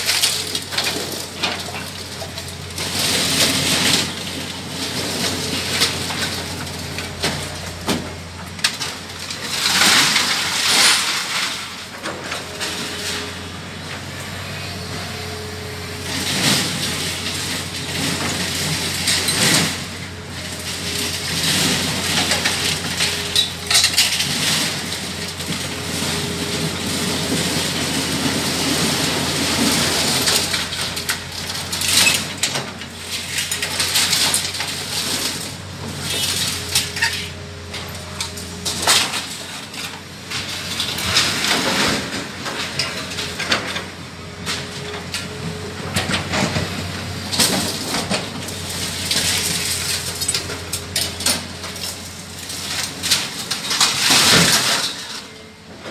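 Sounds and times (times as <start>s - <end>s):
scrap iron clanking and crashing: 0.0s - 15.2s, 15.9s - 55.9s
excavator engine running: 0.0s - 54.7s.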